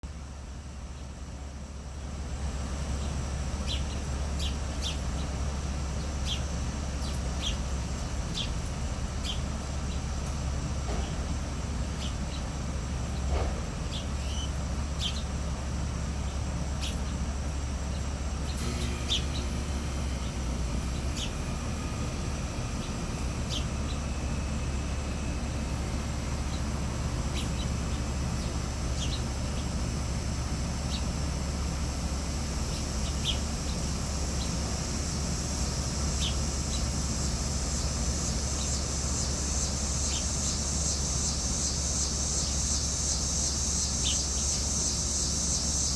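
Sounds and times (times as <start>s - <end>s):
small birds chirping: 0.4s - 45.9s.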